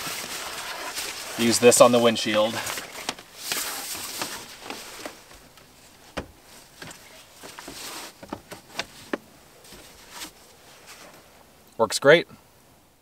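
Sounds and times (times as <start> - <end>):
fabric rustling: 0.0 - 11.4.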